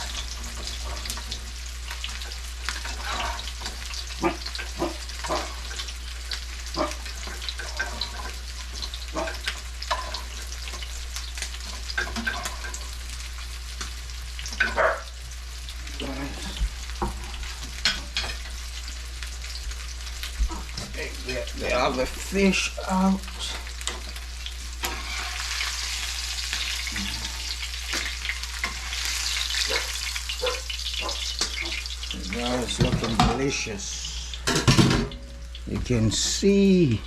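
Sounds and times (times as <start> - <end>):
utensil working in a pan: 0.0 - 36.8
fish sizzling in hot oil: 0.0 - 37.0.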